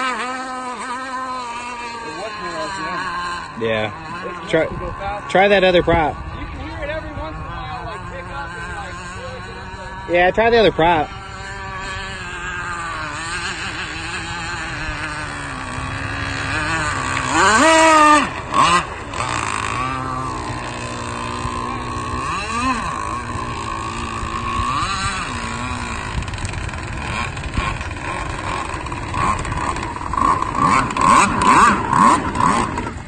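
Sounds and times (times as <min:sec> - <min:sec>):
two-stroke boat engine revving: 0:00.0 - 0:33.0.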